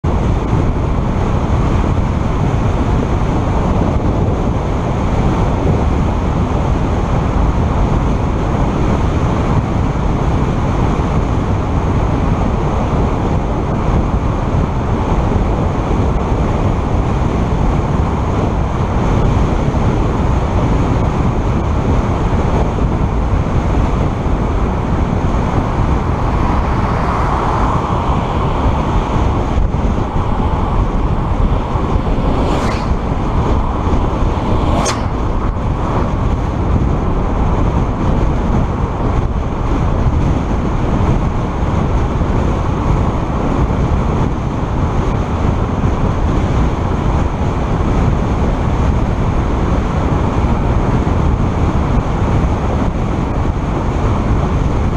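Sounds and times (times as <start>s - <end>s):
car wind and road noise: 0.0s - 54.9s.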